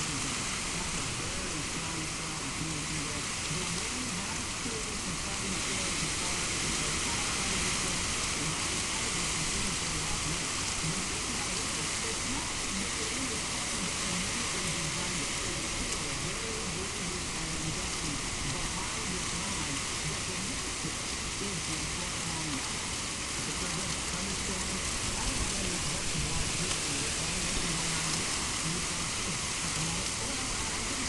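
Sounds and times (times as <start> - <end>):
heavy rain: 0.0 - 31.0
strong wind blowing: 3.8 - 31.0.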